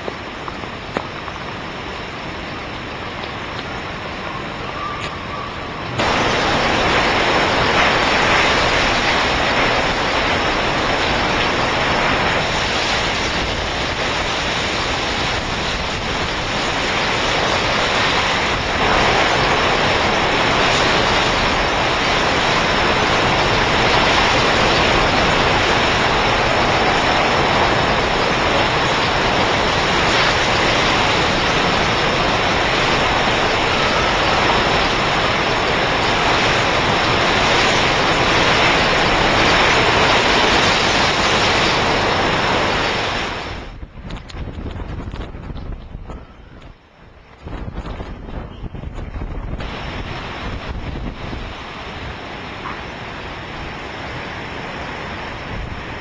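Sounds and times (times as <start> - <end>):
strong wind rushing: 0.0 - 56.0.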